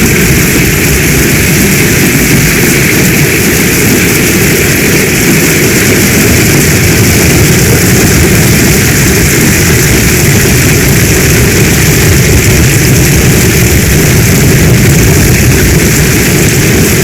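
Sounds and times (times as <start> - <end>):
heavy rain hissing: 0.0 - 17.0
low rumble: 0.0 - 17.0.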